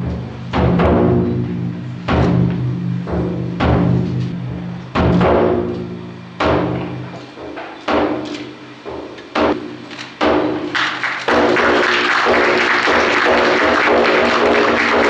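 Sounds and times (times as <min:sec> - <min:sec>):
large taiko drum beats: 0:00.0 - 0:15.0.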